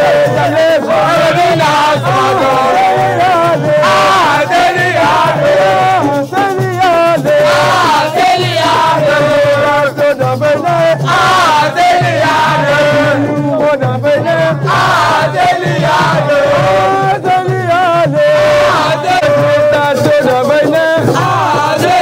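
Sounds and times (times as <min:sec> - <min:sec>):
crowd singing a chant: 0:00.0 - 0:22.0
percussion strikes: 0:00.0 - 0:22.0.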